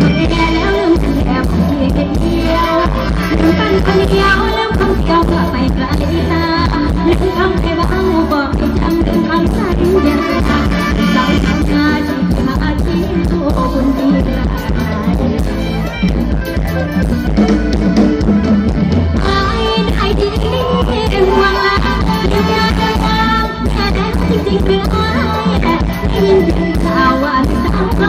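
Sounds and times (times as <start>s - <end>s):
woman singing into a microphone: 0.0s - 16.1s, 19.1s - 28.0s
live band music: 0.0s - 28.0s.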